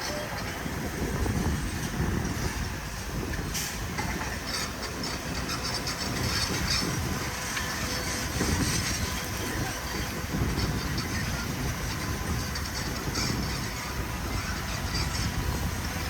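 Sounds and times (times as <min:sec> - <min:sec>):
heavy machinery rumbling: 0:00.0 - 0:16.0
machinery clanking and rattling: 0:00.0 - 0:16.0.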